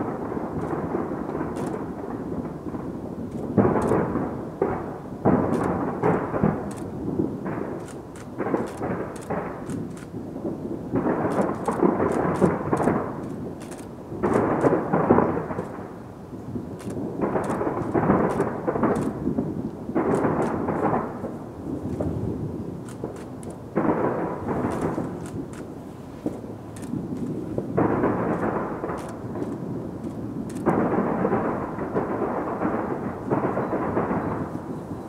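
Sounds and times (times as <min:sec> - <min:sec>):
distant fireworks booming: 0:00.0 - 0:35.0.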